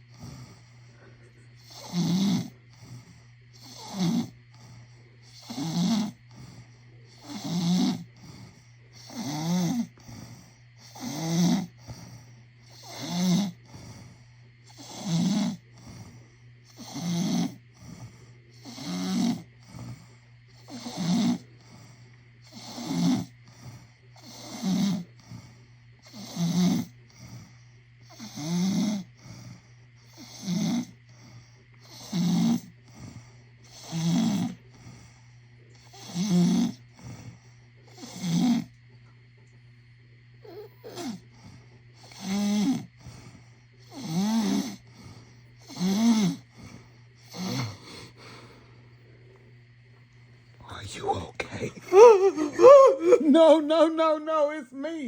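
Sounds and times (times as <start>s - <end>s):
person snoring loudly: 0.0s - 14.1s, 14.7s - 20.0s, 20.6s - 25.4s, 26.0s - 34.8s, 35.8s - 37.3s, 37.9s - 38.8s, 40.4s - 48.6s, 50.6s - 55.0s
steady low hum: 0.0s - 28.3s, 28.9s - 55.0s.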